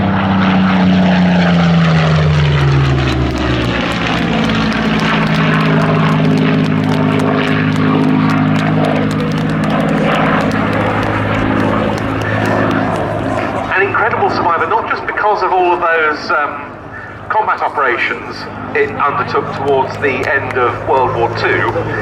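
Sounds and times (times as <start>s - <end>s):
propeller plane engine passing: 0.0s - 22.0s.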